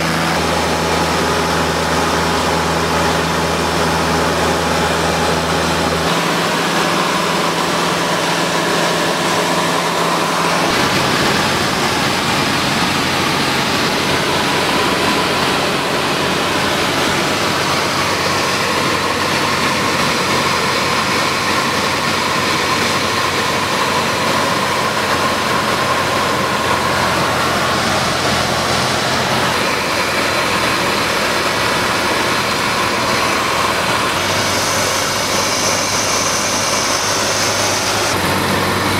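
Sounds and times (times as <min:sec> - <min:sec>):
rush of noise: 0:00.0 - 0:38.9
small plane engine and propeller drone: 0:00.0 - 0:38.9.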